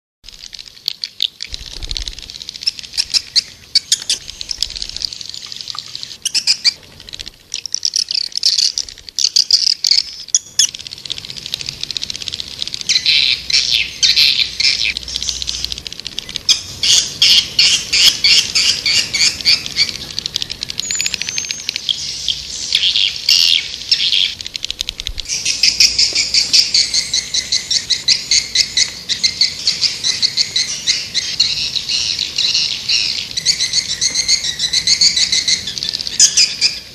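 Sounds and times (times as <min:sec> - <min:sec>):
swiftlets twittering: 0:00.4 - 0:36.9.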